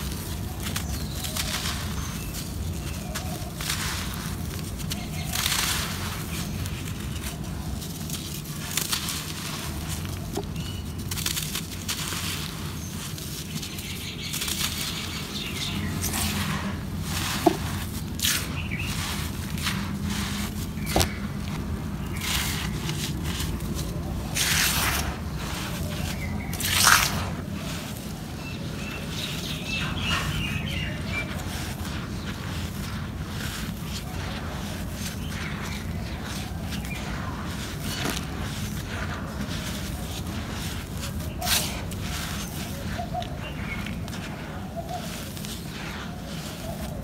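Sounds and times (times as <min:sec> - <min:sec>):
dirt pouring through hands: 0:00.0 - 0:47.0
low steady rumble: 0:00.0 - 0:47.0.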